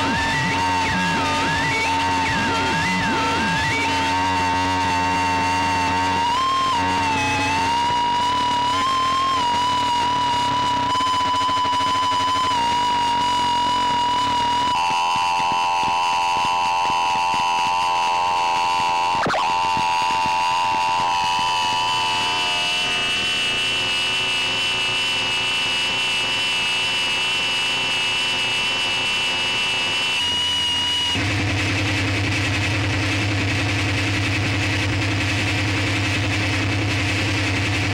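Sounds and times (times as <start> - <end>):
synth pitch sweep: 0.0 - 37.9
synthesizer drone: 0.0 - 37.9.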